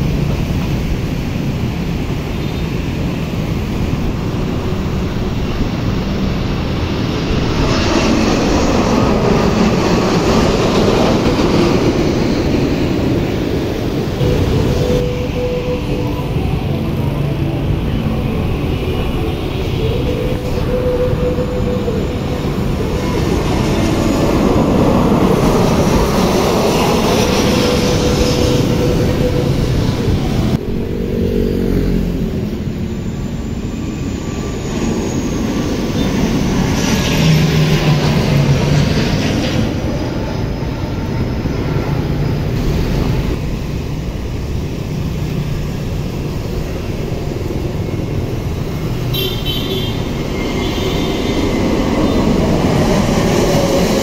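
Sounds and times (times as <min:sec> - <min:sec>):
airliner engine rumble overhead: 0:00.0 - 0:54.0
street traffic: 0:00.0 - 0:54.0
turboprop drone: 0:03.0 - 0:49.1.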